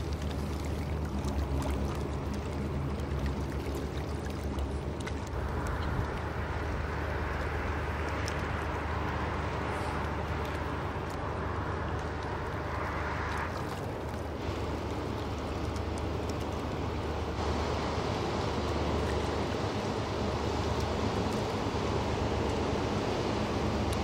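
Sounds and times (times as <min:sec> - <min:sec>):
ship engine hum: 0:00.0 - 0:24.0
water rushing from bow wave: 0:00.0 - 0:24.0.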